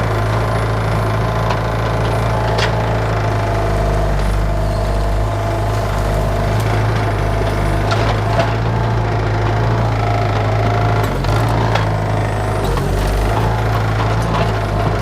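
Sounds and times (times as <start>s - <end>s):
mini excavator engine running: 0.0s - 15.0s.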